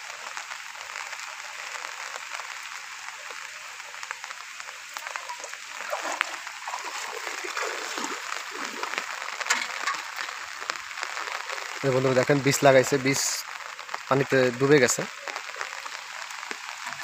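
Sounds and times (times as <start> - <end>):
heavy rain on water: 0.0 - 17.0
small water splashes: 0.0 - 17.0.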